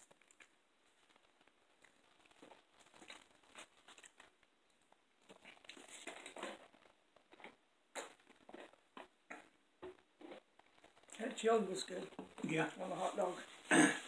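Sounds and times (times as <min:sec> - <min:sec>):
cups and food crinkling: 0:00.0 - 0:14.0.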